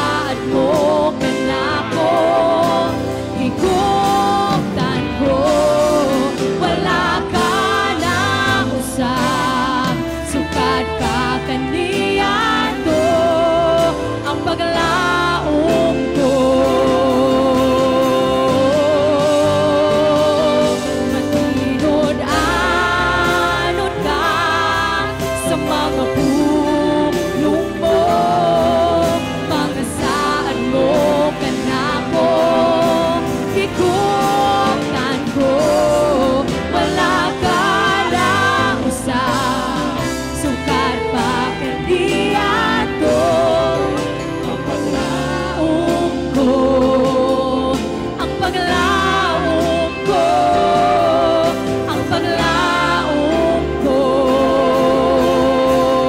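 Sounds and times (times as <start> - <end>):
backing singers: 0.0 - 56.0
woman singing lead: 0.0 - 56.0
worship band playing: 0.0 - 56.0.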